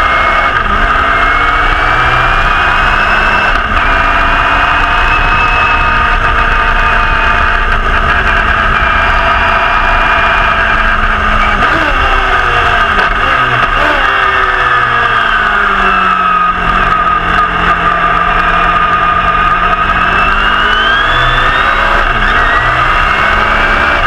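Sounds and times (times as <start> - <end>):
racing engine running hard: 0.0 - 24.0.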